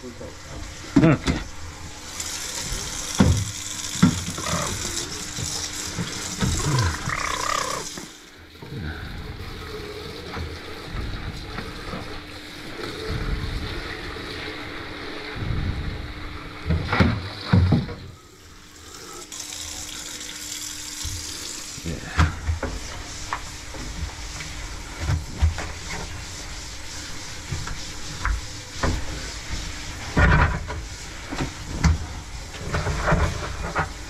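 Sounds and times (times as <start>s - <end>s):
faucet water running into sink: 1.8s - 15.9s, 16.6s - 32.8s.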